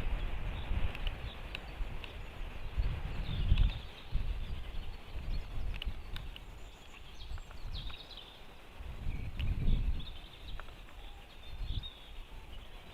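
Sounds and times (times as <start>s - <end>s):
wind rumbling on microphone: 0.0s - 12.9s
faint high bird chirps: 0.2s - 12.9s.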